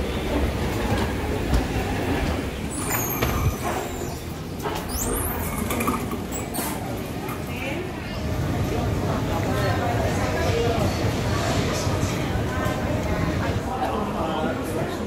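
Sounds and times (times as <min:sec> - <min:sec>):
terminal background rumble: 0:00.0 - 0:15.0.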